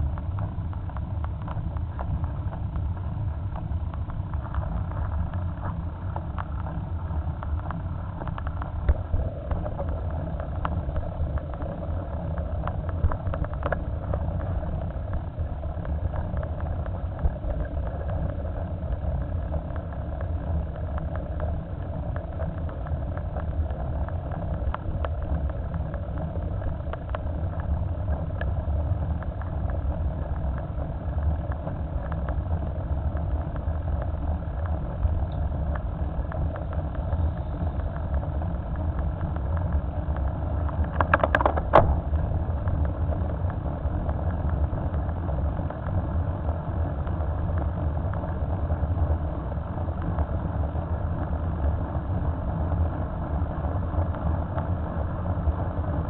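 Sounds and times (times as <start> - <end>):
tyres on asphalt: 0.0 - 56.0
wind rumble on microphone: 0.0 - 56.0.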